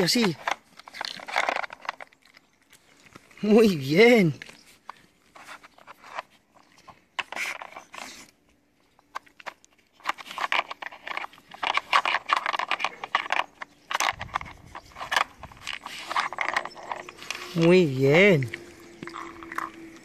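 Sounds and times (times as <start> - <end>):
plastic blocks clicking and scraping: 0.0 - 3.7, 4.3 - 8.3, 8.9 - 20.0.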